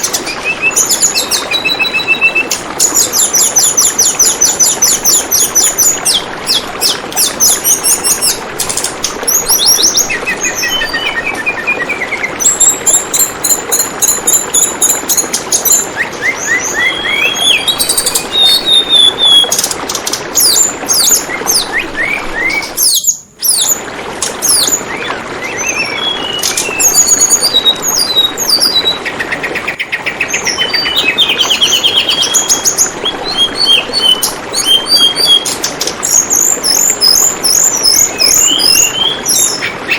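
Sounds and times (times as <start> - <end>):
bird chirps and trills: 0.0 - 39.9
running water babbling: 0.0 - 39.9.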